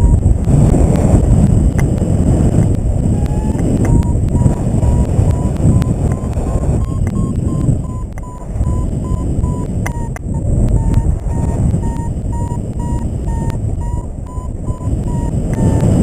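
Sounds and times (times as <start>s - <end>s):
variometer beeping: 0.0s - 0.3s, 3.1s - 16.0s
wind noise on microphone: 0.0s - 16.0s.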